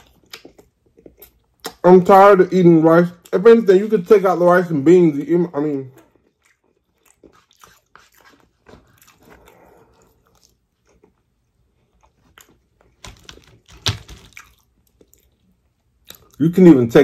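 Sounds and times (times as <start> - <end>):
chewing and crunching fried chicken: 0.0 - 2.2, 5.1 - 16.8.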